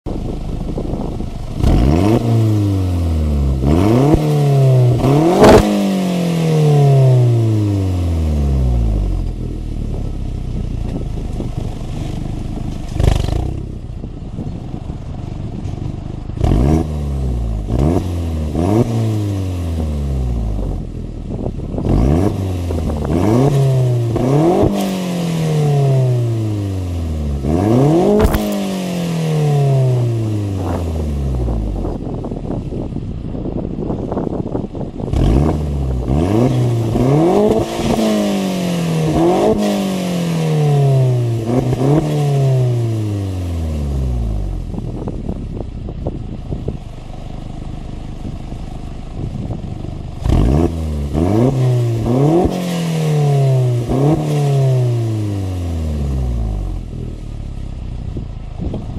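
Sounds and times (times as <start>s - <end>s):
car engine revving and idling: 0.1s - 58.9s
exhaust crack: 0.1s - 58.9s.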